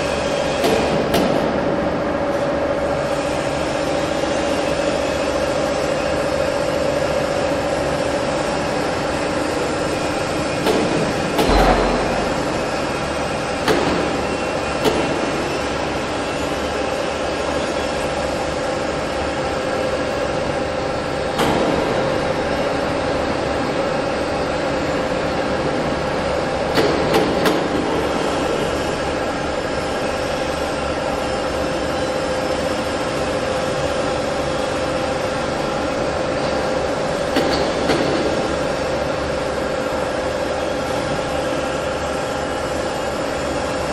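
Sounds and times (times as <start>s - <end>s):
industrial machinery droning: 0.0s - 43.9s.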